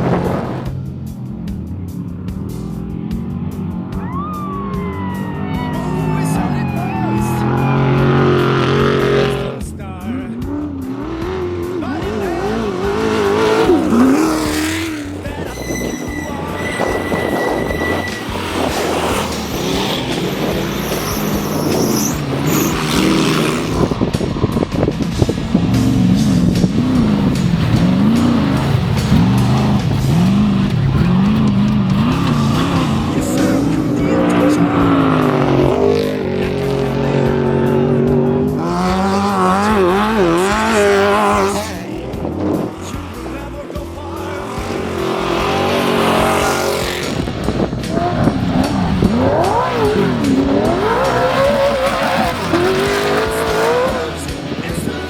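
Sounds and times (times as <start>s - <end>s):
background music: 0.0s - 55.0s
race vehicle engine revving: 0.0s - 55.0s.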